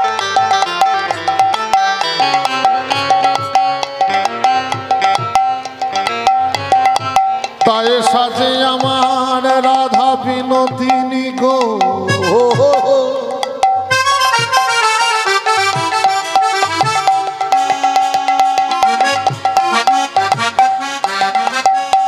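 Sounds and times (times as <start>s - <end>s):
hand drum rhythm: 0.0s - 22.0s
held melody with bending notes: 0.0s - 22.0s
repeated melodic phrase: 0.0s - 22.0s.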